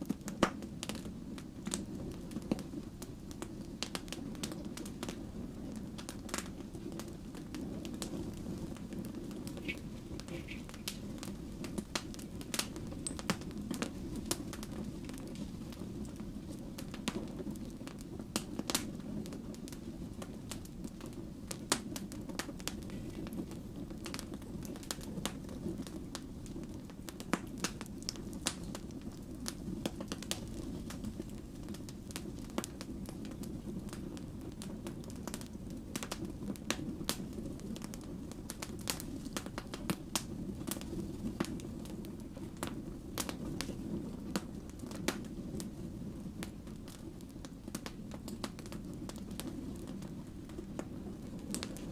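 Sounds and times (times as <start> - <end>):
fire crackles and pops: 0.0 - 51.9
low rumble of flames: 0.0 - 51.9.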